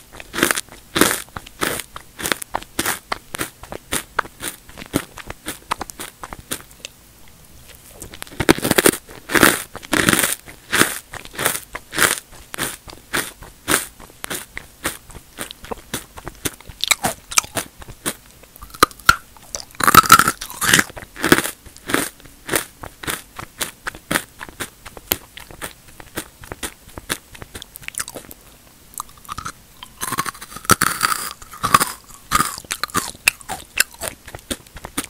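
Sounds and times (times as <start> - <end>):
chewing crunchy chips: 0.0 - 35.0.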